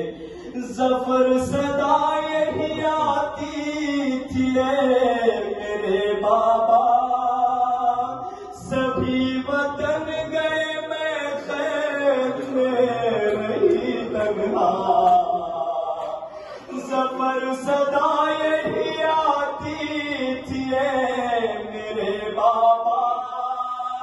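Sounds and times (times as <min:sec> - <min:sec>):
man chanting into a microphone: 0:00.0 - 0:24.0.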